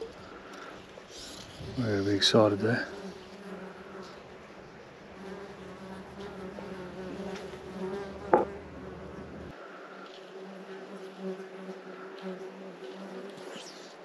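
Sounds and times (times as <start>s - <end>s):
flying insect buzzing: 0.0s - 4.4s, 5.1s - 14.0s.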